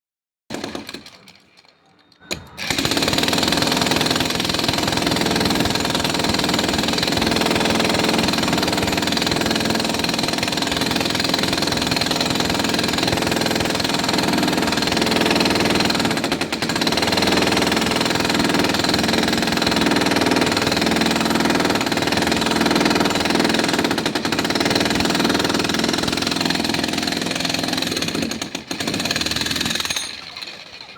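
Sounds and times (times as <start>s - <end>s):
concrete breaker hammering: 0.5s - 1.3s, 2.3s - 30.8s.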